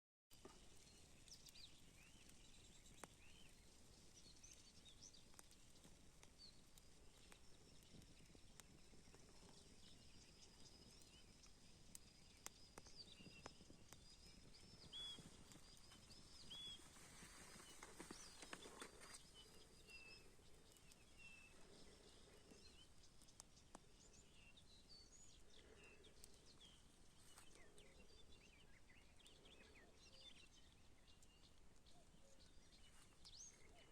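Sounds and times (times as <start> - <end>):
campfire crackling: 0.3 - 33.9
faint birdsong: 0.3 - 33.9.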